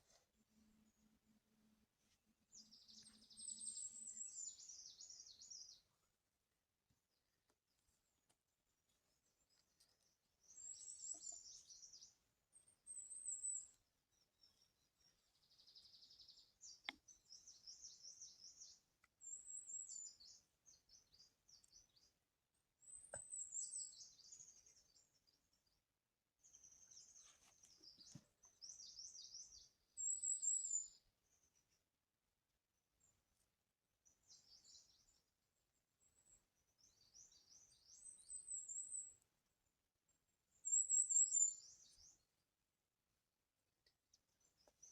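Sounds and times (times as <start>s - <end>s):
songbird chirping: 2.0s - 32.1s, 32.8s - 44.9s.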